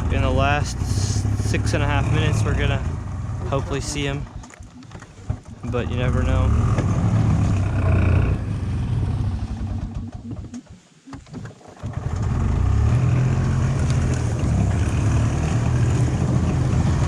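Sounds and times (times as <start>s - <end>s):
golf cart engine rumble: 0.0s - 17.0s.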